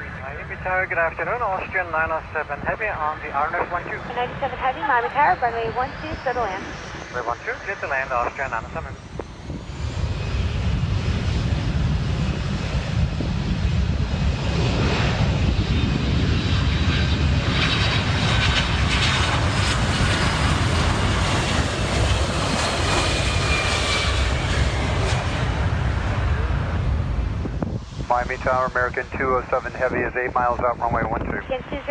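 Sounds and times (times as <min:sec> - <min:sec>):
jet airliner engines rumbling: 0:00.0 - 0:31.9.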